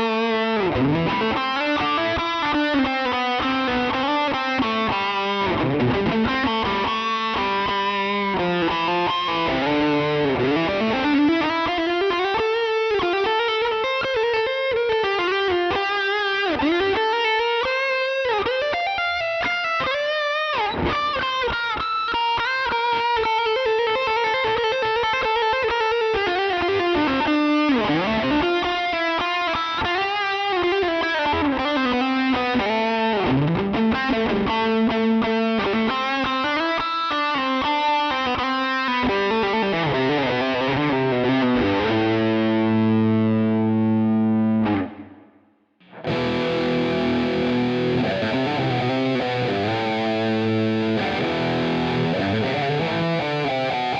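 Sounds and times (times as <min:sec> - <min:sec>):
distorted electric guitar: 0:00.0 - 0:53.9.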